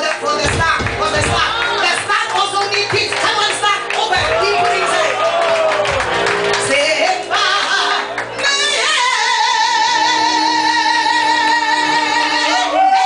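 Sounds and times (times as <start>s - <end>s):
backing track: 0.0s - 13.0s.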